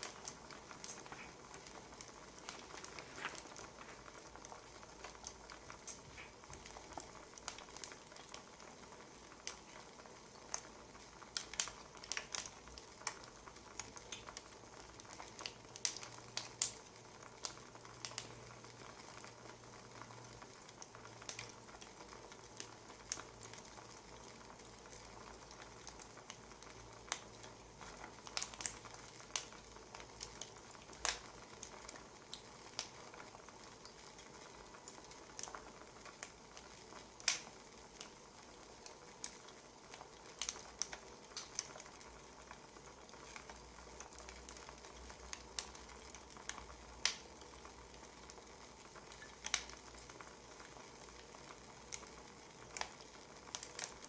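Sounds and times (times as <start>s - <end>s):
faint steady hiss: 0.0s - 54.0s
wood fire crackling and popping: 0.0s - 54.0s.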